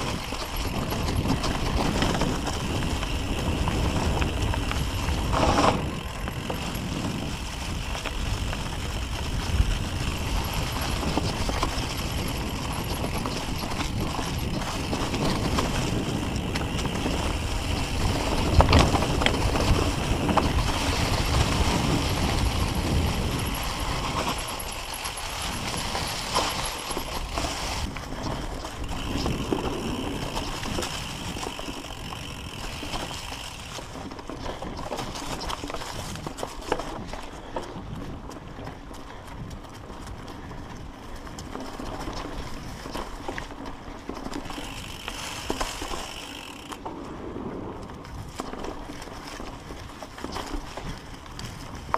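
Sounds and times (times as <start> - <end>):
bike rattling and knocking: 0.0 - 51.9
bike tyres crunching through leaves: 0.0 - 51.9.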